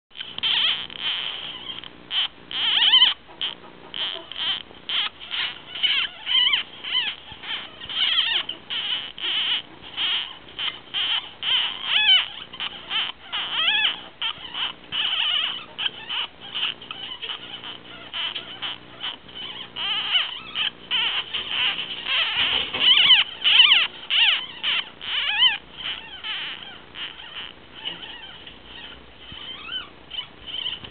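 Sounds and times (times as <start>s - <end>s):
ferret kit squeaking: 0.1s - 30.9s.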